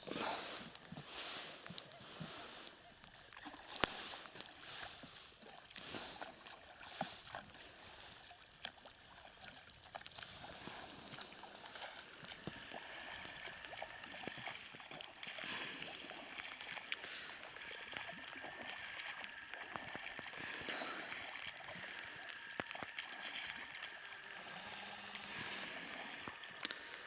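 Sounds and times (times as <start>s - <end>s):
oars splashing in water: 0.0s - 27.0s
small water clicks: 0.0s - 27.0s.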